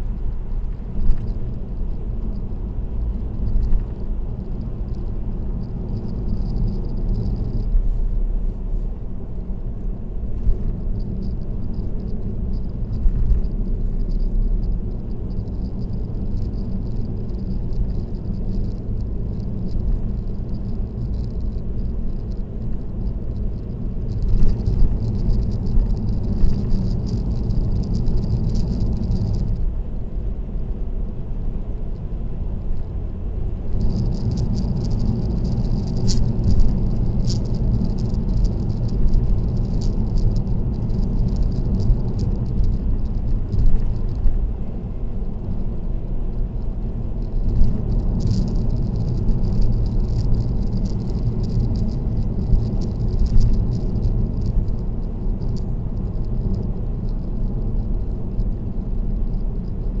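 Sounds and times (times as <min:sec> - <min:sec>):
car road noise from inside: 0:00.0 - 1:00.0.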